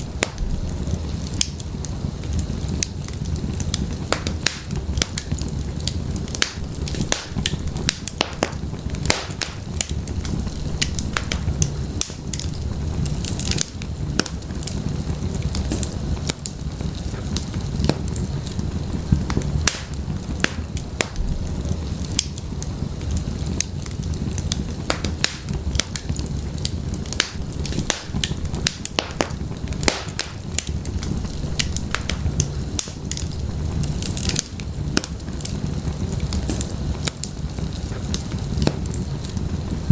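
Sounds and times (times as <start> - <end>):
firewood popping and snapping: 0.0 - 39.9
wood fire crackling: 0.0 - 39.9.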